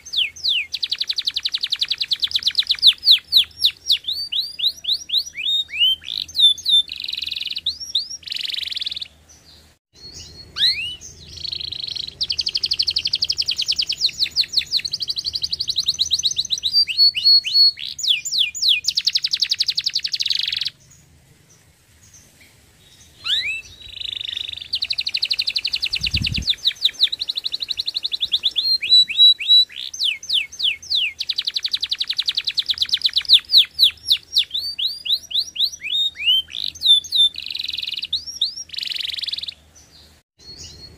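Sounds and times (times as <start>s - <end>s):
canary singing trills: 0.0s - 21.1s, 22.8s - 40.9s.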